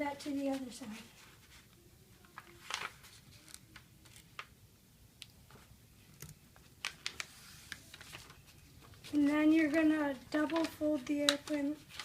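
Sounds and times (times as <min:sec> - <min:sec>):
paper crinkling: 0:00.2 - 0:04.6, 0:05.5 - 0:12.0.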